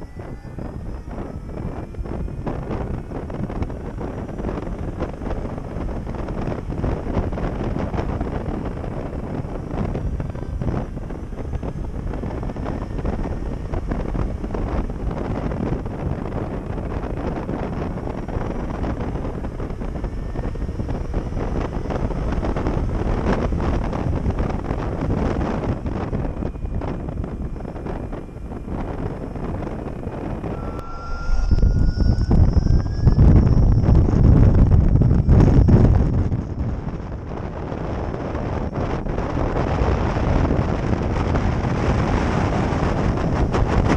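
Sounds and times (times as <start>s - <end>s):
electric motor whine: 0.0s - 43.9s
wind rushing over microphone: 0.0s - 43.9s.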